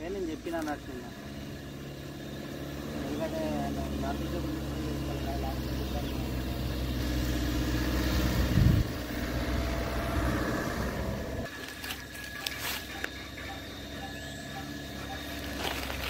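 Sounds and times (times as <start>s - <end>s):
car engine running at low speed: 0.0s - 16.0s.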